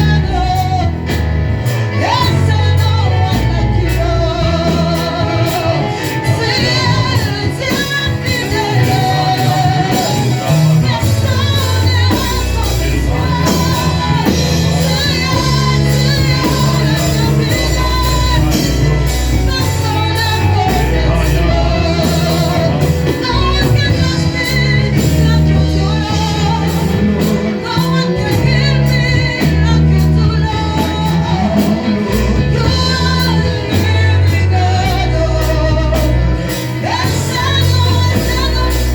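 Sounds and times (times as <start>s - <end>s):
band with steady beat and bass: 0.0s - 38.9s
voices singing: 0.0s - 38.9s.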